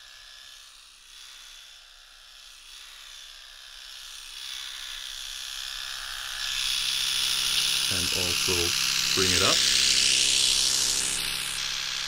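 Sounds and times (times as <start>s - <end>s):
electric razor buzzing: 0.0s - 12.0s.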